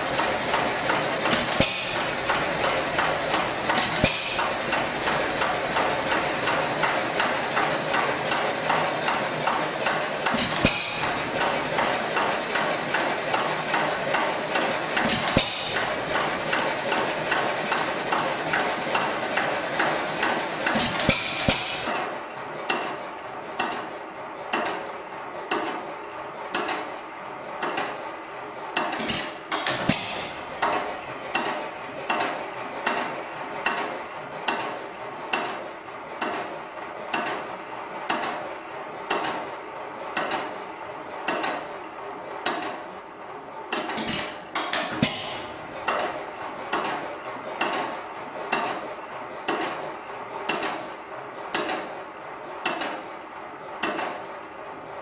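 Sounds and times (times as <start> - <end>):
stationary engine clacking: 0.0 - 55.0.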